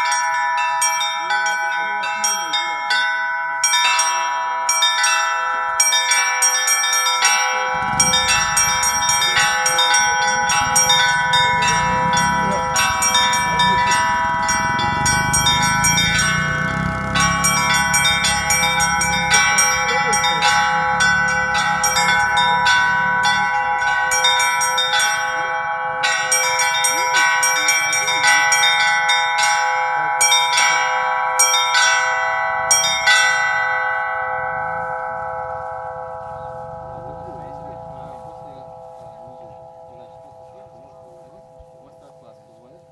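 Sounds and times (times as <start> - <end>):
large bells ringing: 0.0 - 42.9
small high bells striking: 0.0 - 42.9.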